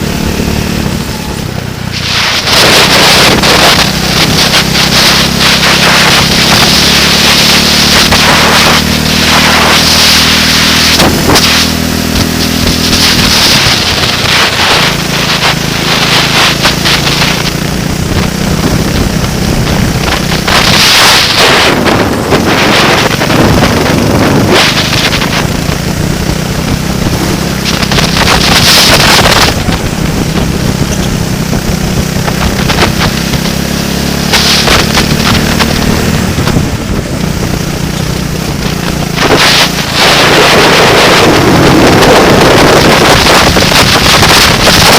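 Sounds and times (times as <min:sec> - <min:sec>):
racing engine running hard: 0:00.0 - 0:44.9
wind buffeting on microphone: 0:00.0 - 0:44.9.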